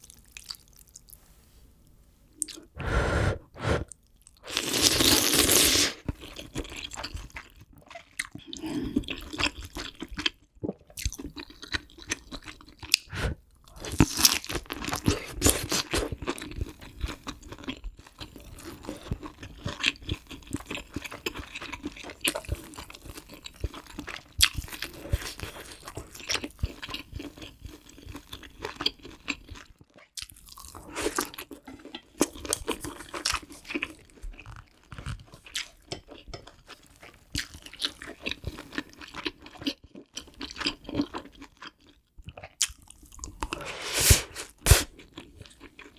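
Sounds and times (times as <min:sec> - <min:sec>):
chewing and slurping food: 0:03.8 - 0:45.9.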